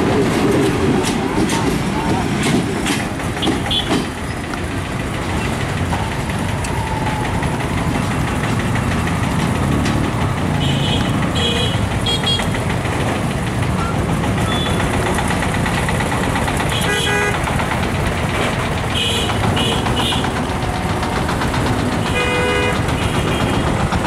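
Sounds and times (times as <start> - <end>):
freight train wheels rumbling on rails: 0.0 - 24.0.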